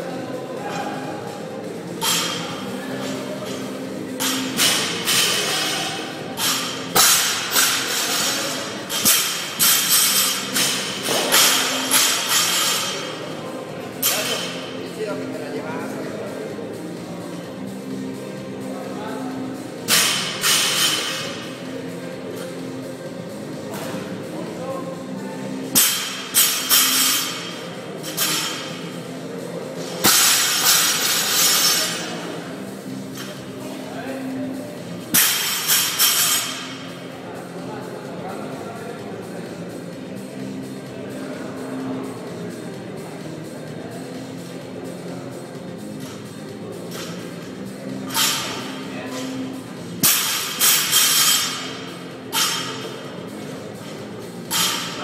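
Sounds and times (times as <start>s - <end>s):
loud rhythmic gym music: 0.0s - 55.0s.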